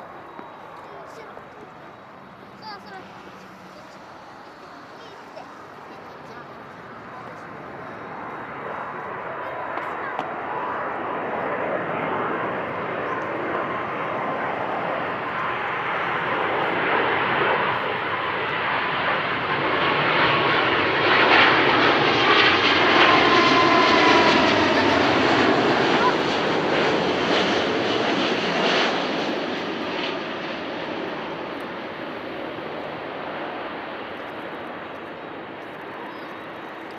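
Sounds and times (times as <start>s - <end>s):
faint jet engine whine: 0.0s - 36.9s
jet engines roaring: 0.0s - 36.9s.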